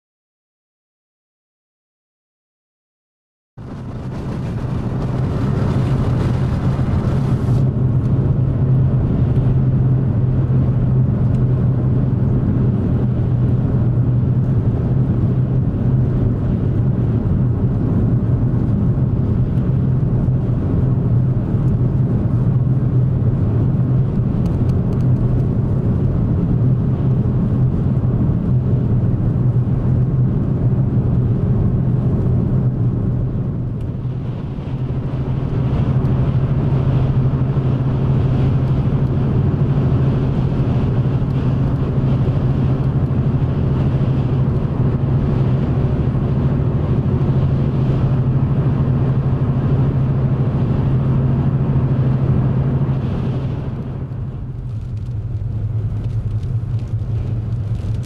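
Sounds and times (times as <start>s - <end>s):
car driving drone inside cabin: 3.6s - 58.0s
wind rushing against car: 3.6s - 58.0s.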